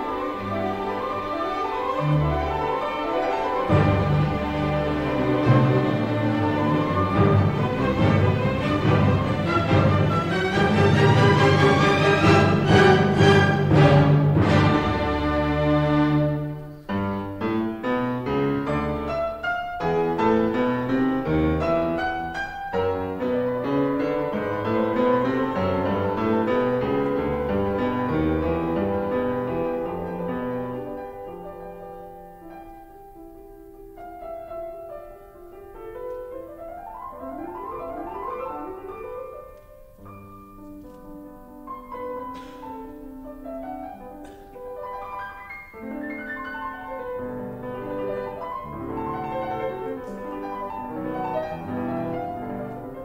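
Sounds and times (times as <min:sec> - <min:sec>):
classical piano music: 0:00.0 - 0:53.0.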